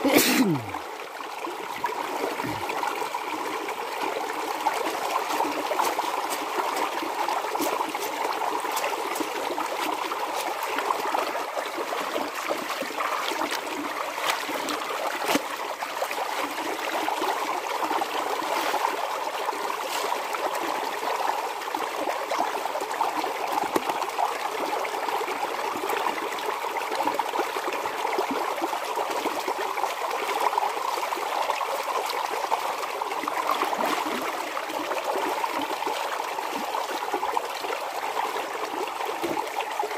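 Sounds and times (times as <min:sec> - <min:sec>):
flowing water trickling: 0:00.0 - 0:39.9
splashes and drips: 0:01.4 - 0:39.9.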